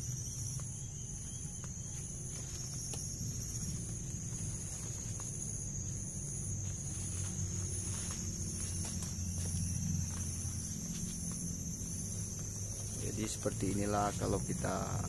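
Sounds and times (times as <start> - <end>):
high pulsing insect call: 0.0 - 15.0
insects buzzing: 0.0 - 15.0.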